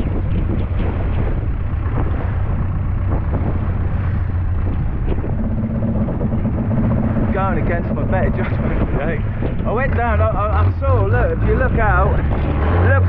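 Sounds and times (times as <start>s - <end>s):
boat engine droning: 0.0s - 13.0s
wind buffeting microphone: 0.0s - 13.0s.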